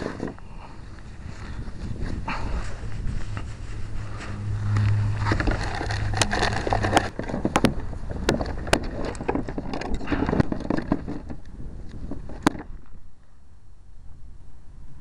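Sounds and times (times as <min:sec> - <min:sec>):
wind on microphone: 0:00.0 - 0:13.2
low steady hum: 0:00.0 - 0:15.0.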